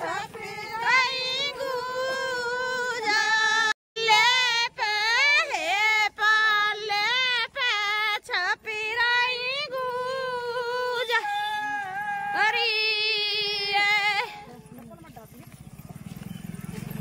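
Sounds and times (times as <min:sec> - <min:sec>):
woman singing unaccompanied: 0:00.0 - 0:14.9.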